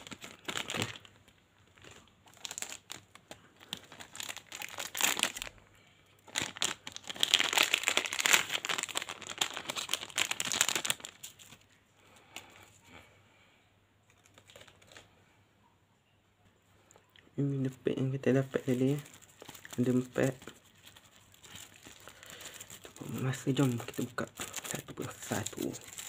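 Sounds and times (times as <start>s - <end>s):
plastic wrappers crinkling: 0.0s - 5.6s, 6.2s - 12.6s, 14.1s - 15.2s, 17.4s - 26.0s.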